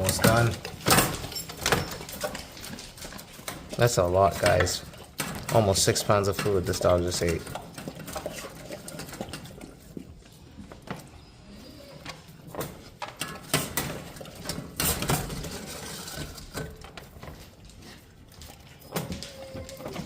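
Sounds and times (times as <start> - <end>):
dog chewing and licking: 0.0 - 20.0.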